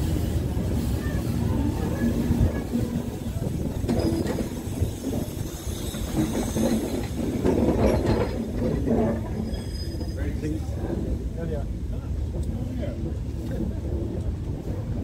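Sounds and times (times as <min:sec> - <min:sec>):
diesel train rumbling past: 0:00.0 - 0:15.0
wheels clicking over rail joints: 0:01.7 - 0:15.0.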